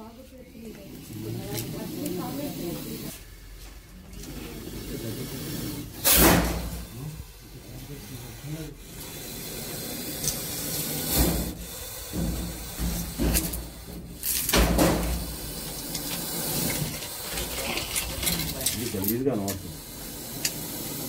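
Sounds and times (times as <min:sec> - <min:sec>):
snake hissing: 0:00.9 - 0:03.4, 0:04.2 - 0:21.0.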